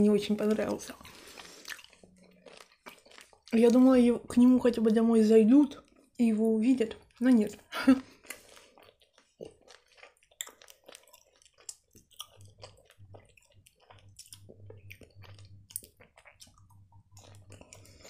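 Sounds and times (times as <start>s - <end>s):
person chewing gummy candy: 0.4s - 4.2s, 5.6s - 18.0s.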